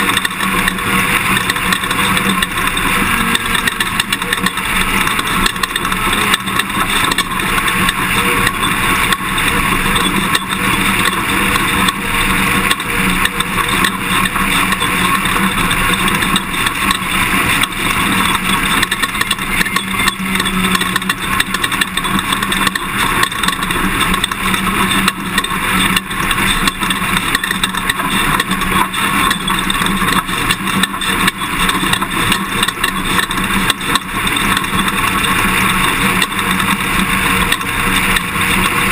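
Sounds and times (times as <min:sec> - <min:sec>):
pickup truck engine running: 0:00.0 - 0:38.9
rattles and knocks from rough ride: 0:00.0 - 0:38.9.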